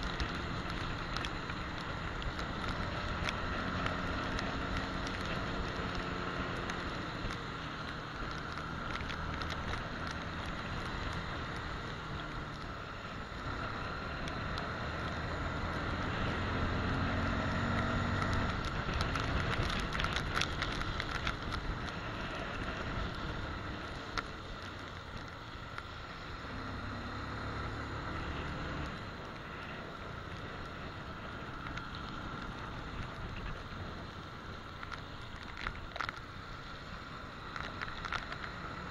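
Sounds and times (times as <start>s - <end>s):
tyres hissing on wet road: 0.1s - 38.9s.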